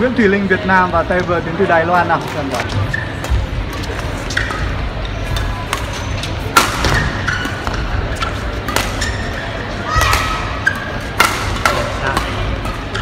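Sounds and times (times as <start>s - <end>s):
rackets striking shuttlecock: 2.5s - 13.0s.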